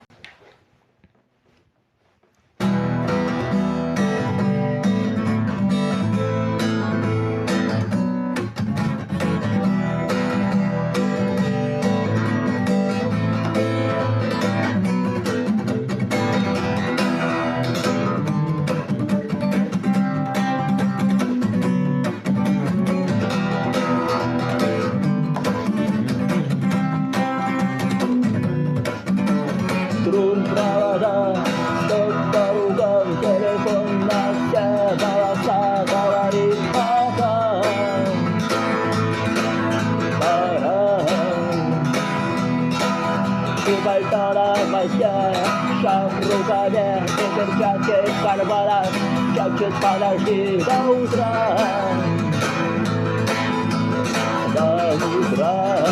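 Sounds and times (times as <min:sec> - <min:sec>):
acoustic guitar strumming: 0:02.5 - 0:55.9.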